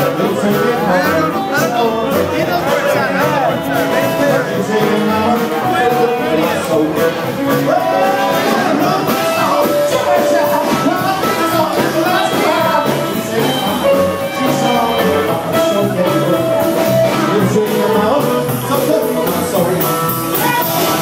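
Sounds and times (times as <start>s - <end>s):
man singing: 0.0s - 21.0s
rockabilly band playing: 0.0s - 21.0s.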